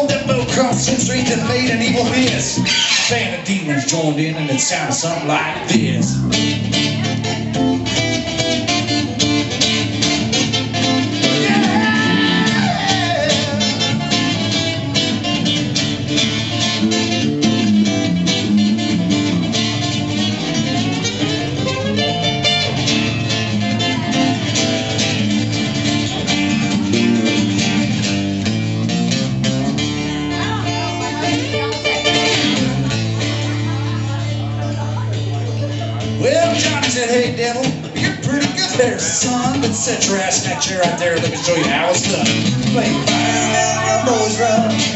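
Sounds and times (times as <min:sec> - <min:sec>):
fast country-rock guitar music: 0:00.0 - 0:44.9.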